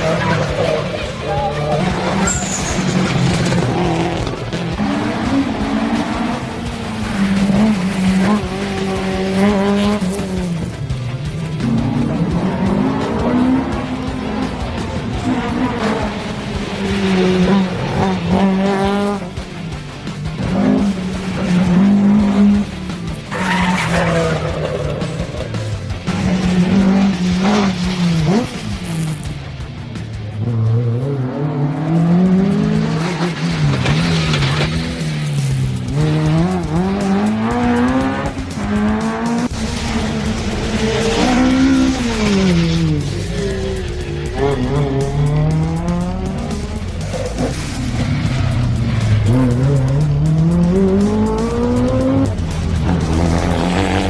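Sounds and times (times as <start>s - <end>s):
music with low bass line: 0.0s - 54.0s
rally car engines revving: 0.0s - 54.0s.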